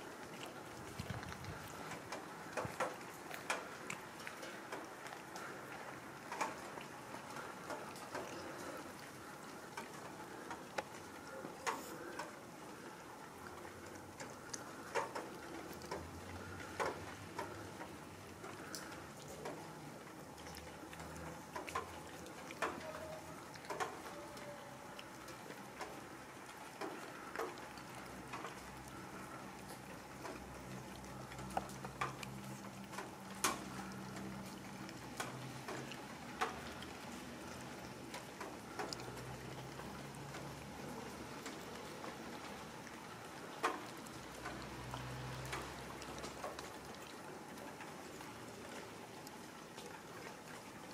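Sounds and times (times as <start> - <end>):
cats chewing wetly: 0.0 - 50.9.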